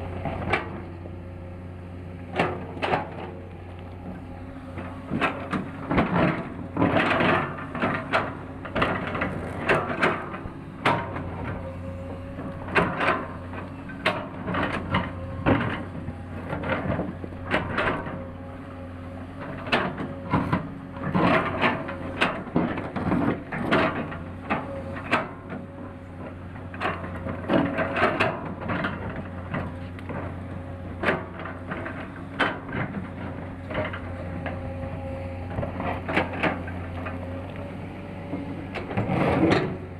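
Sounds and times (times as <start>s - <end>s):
excavator engine running: 0.0s - 39.9s
metal clanks and knocks: 4.1s - 18.5s, 19.1s - 37.5s, 38.3s - 39.9s.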